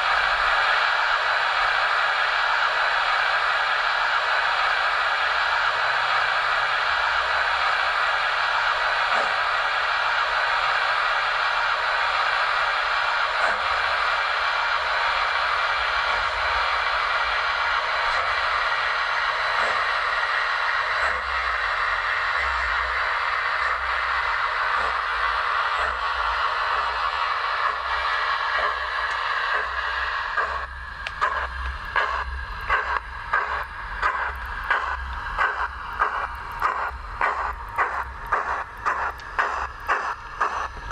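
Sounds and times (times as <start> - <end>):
model steam locomotive hissing: 0.0 - 40.9.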